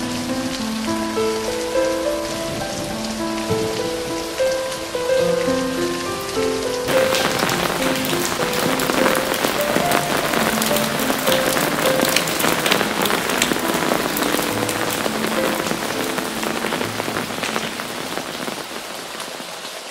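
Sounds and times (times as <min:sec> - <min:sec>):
soft slow melody: 0:00.0 - 0:18.8
rain pattering: 0:00.0 - 0:19.9.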